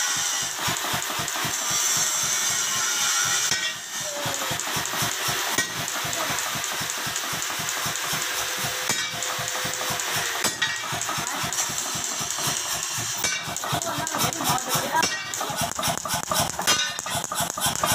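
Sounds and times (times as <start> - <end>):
power hammer striking: 0.0 - 17.9.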